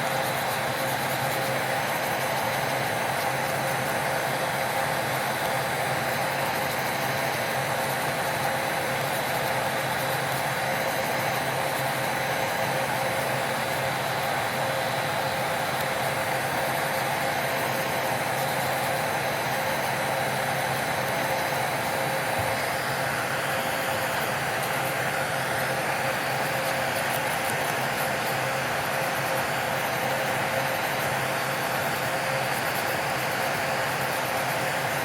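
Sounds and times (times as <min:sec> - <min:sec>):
small electric motor running: 0:00.0 - 0:35.0.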